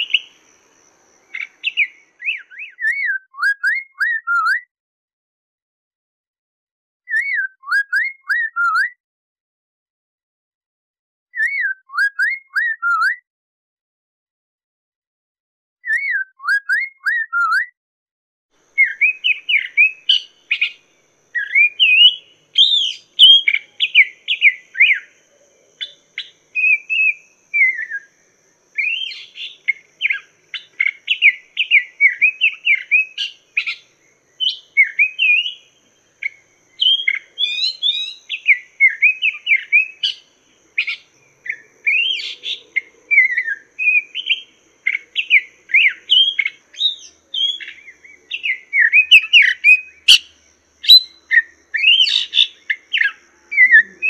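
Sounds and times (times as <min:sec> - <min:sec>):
bird singing whistled phrases: 0:00.0 - 0:00.3, 0:01.3 - 0:04.7, 0:07.1 - 0:09.0, 0:11.3 - 0:13.2, 0:15.8 - 0:17.7, 0:18.8 - 0:28.1, 0:28.8 - 0:54.0.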